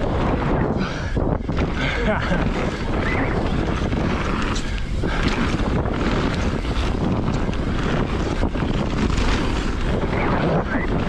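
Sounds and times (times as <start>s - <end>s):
bike knocking and rattling: 0.0s - 11.0s
tyres rushing on dirt: 0.0s - 11.0s
wind noise on microphone: 0.0s - 11.0s.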